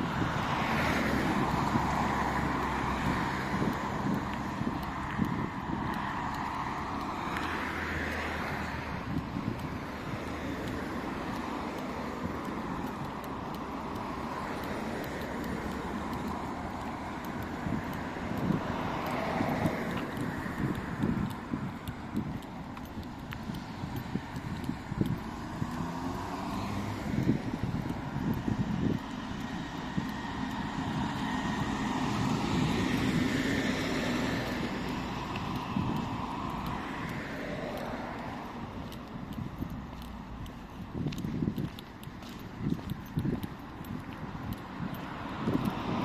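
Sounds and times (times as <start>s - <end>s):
road traffic: 0.0s - 46.0s
vehicle passing on street: 0.0s - 46.0s.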